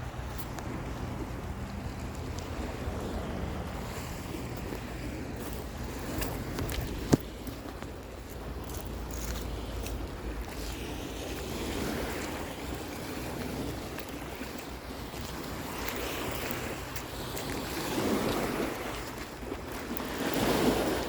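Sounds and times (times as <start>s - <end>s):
waves washing onto beach: 0.0s - 21.0s
wind buffeting microphone: 0.0s - 21.0s.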